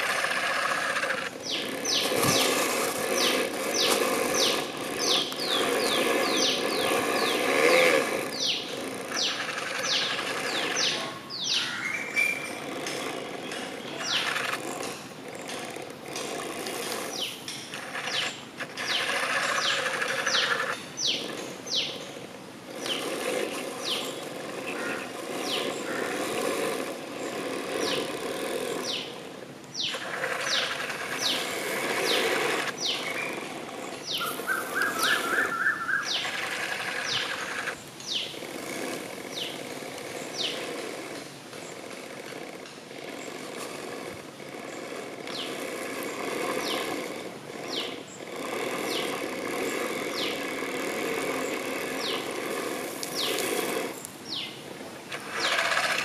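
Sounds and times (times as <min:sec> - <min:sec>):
birds chirping: 0:00.0 - 0:56.0
hydraulic pump whirring: 0:00.0 - 0:56.0.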